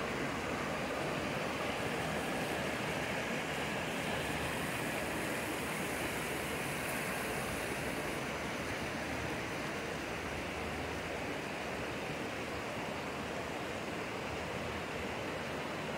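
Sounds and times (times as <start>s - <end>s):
creek rushing over rocks: 0.0s - 15.9s.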